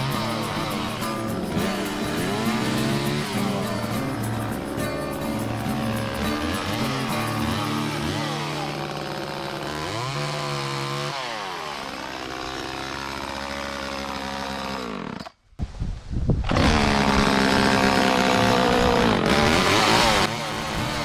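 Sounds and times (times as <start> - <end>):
chainsaw revving and cutting: 0.0 - 15.3, 16.5 - 21.0.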